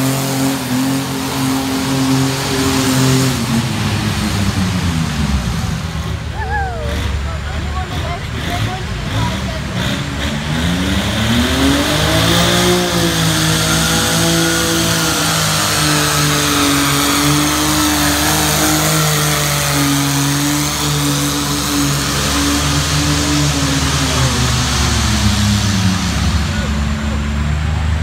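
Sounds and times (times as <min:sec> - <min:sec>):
diesel engine working hard: 0:00.0 - 0:28.0.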